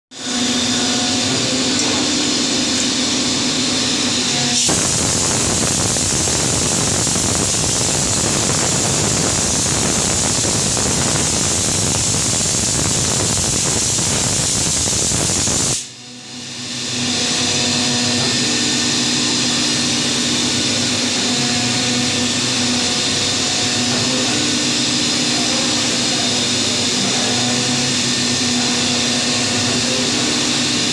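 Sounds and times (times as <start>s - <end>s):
milling machine cutting metal: 0.2s - 30.9s.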